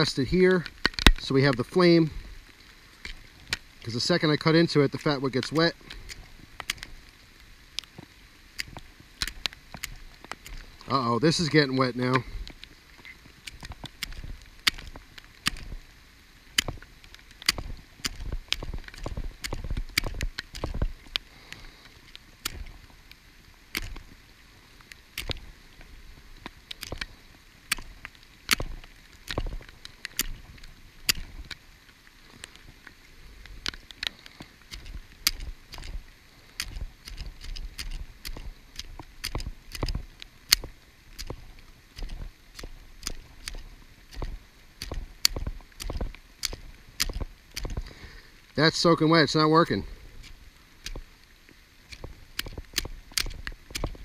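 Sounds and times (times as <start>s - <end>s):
big raindrops tapping: 0.0s - 54.0s
rain patter: 0.0s - 54.0s.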